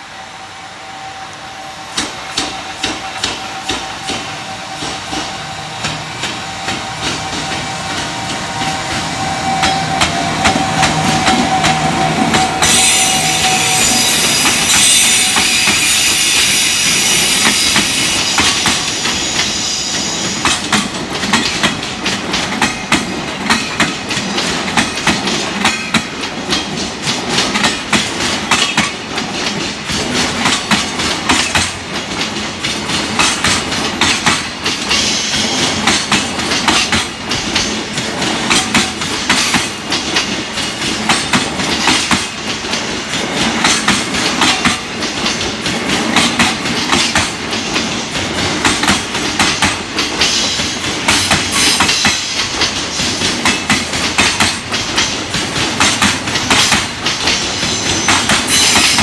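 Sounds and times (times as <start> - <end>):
train wheels clattering over rail joints: 2.0 - 59.0.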